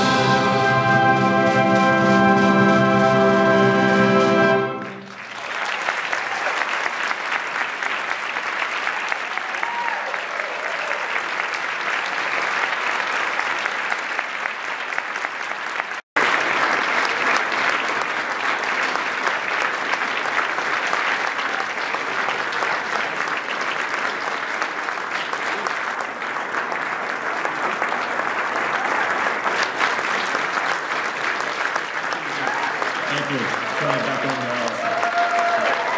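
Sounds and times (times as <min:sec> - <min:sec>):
audience applause: 0:00.0 - 0:35.9.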